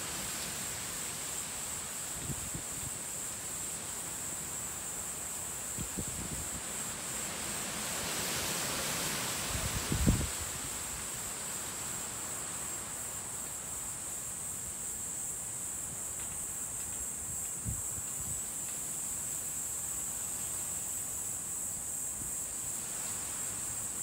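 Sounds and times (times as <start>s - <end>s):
insects droning: 0.0s - 24.0s
soft wind: 0.0s - 24.0s.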